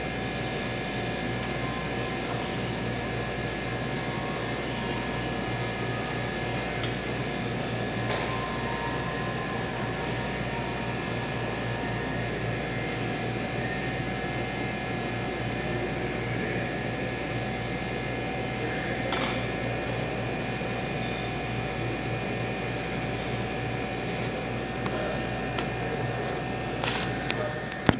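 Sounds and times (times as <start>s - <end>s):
air conditioning machine hum: 0.0s - 27.9s.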